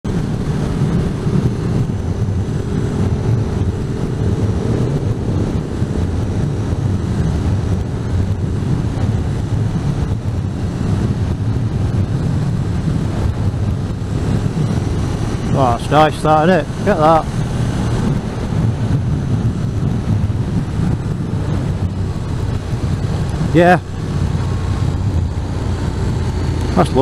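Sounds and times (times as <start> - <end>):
motorcycle engine droning: 0.0 - 27.0
wind buffeting microphone: 0.0 - 27.0.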